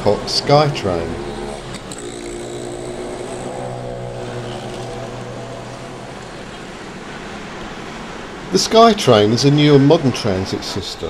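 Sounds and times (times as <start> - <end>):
motor vehicle engine droning: 0.0 - 10.0
road traffic noise: 0.0 - 11.0.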